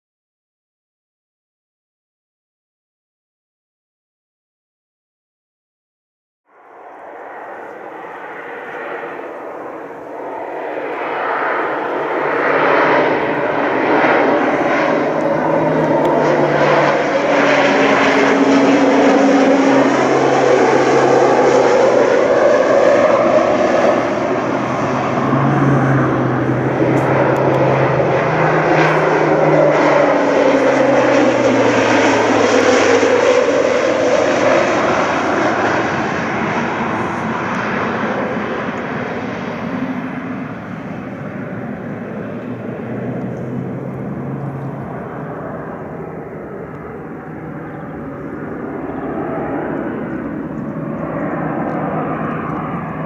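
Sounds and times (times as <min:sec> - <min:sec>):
propeller plane flying low: 0:06.5 - 0:53.0.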